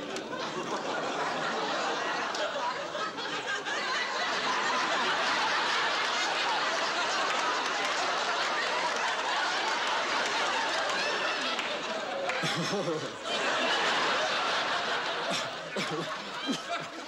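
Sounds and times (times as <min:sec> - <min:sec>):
studio audience laughing: 0:00.0 - 0:17.0.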